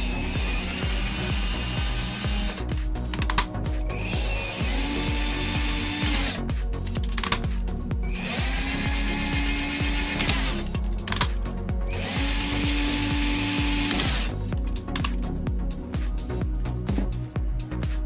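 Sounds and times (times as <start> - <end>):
cordless drill motor whining: 0.0 - 7.4, 8.0 - 15.2
electronic music with beat: 0.0 - 18.0.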